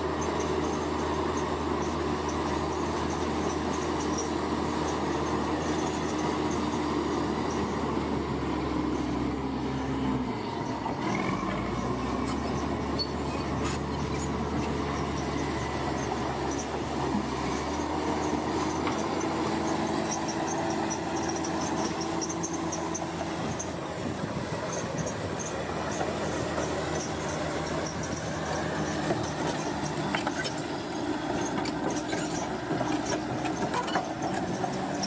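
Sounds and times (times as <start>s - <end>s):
diesel engine running: 0.0s - 35.0s
metallic squeaks from tracks: 0.1s - 35.0s.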